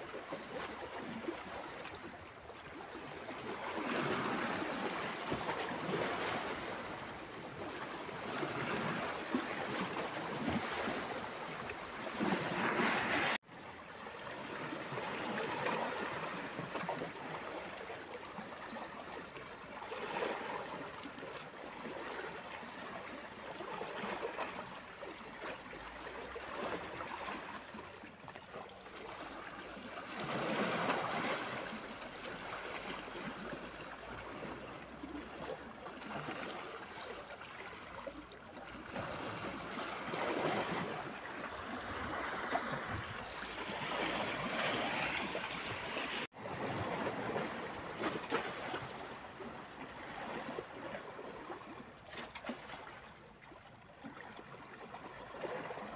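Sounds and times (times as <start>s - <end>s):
waves lapping against boulders: 0.0s - 55.9s.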